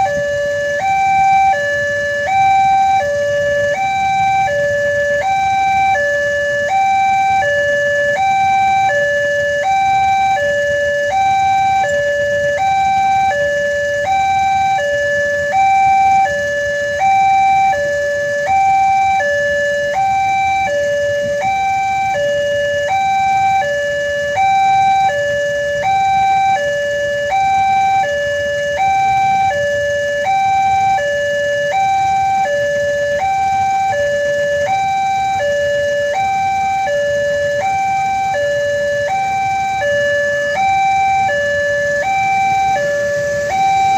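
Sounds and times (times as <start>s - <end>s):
two-tone crossing alarm: 0.0s - 43.9s.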